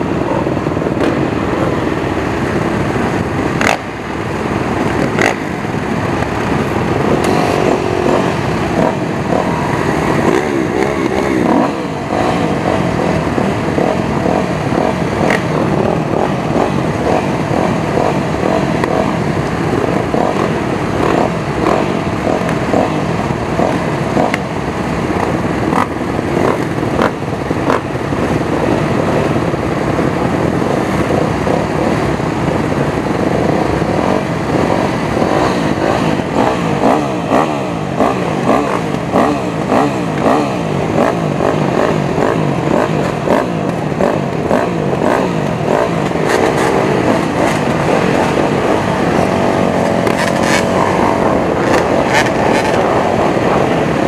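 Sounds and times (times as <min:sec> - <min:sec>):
dirt bikes idling and revving: 0:00.0 - 0:54.0.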